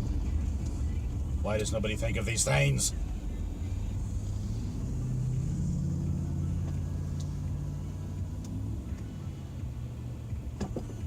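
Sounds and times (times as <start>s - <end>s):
car rumbling: 0.0s - 11.0s
low hum: 0.0s - 11.0s.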